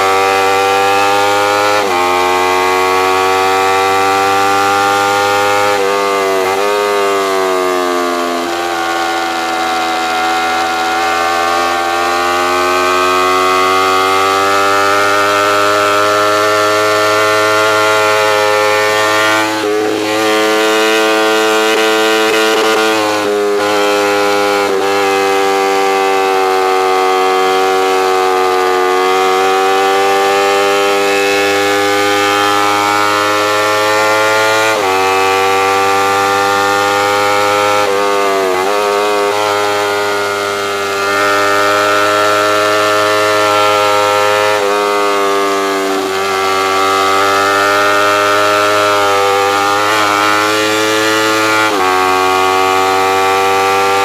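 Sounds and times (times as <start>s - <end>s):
motorcycle engine revving high: 0.0s - 54.0s.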